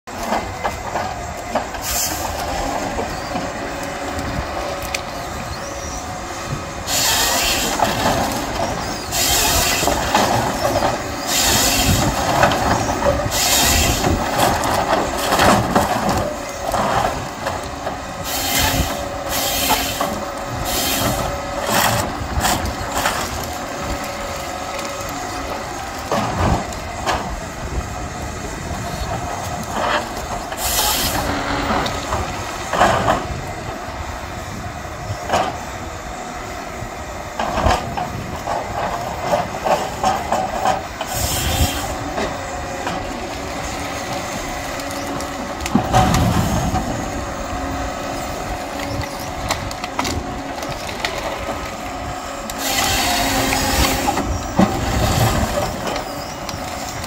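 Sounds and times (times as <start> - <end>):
diesel engine and hydraulics running: 0.0 - 57.0
harvester head cutting logs: 0.1 - 33.8, 37.4 - 57.0.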